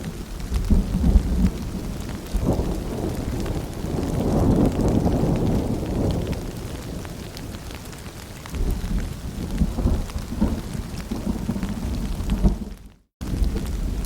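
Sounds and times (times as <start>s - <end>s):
distant thunder rumbling: 0.0s - 7.8s, 8.5s - 14.0s
rain and dripping: 0.0s - 14.0s.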